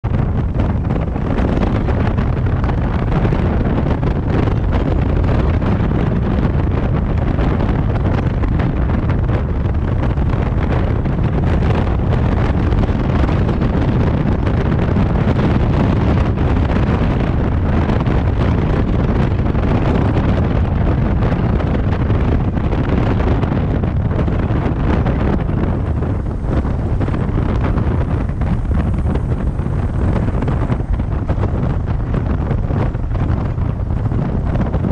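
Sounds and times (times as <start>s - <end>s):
road and traffic noise: 0.0s - 34.9s
wind buffeting microphone: 0.0s - 34.9s.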